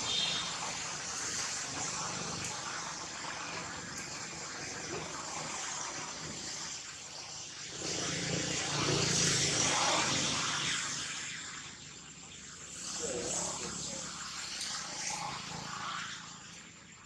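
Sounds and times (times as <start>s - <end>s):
outdoor background noise: 0.0s - 17.0s
thin high constant tone: 0.0s - 17.0s.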